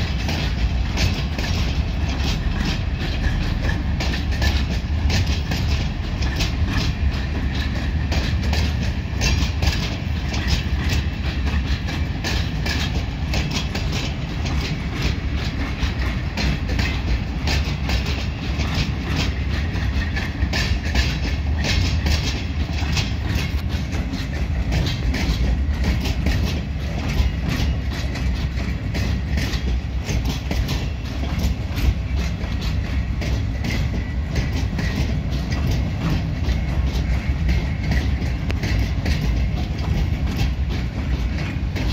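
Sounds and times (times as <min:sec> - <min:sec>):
freight train rumble: 0:00.0 - 0:41.9
wheels clacking over rail joints: 0:00.0 - 0:41.9.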